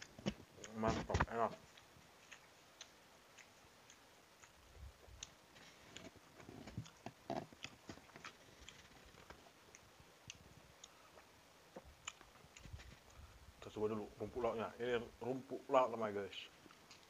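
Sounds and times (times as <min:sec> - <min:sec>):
person chewing: 0:00.0 - 0:13.3, 0:16.6 - 0:17.0.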